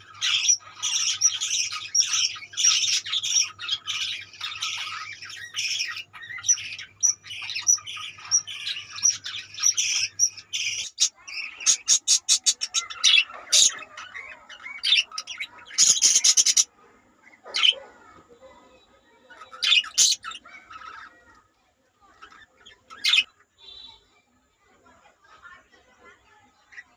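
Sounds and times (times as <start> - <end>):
budgerigars chirping and chattering: 0.0 - 24.1.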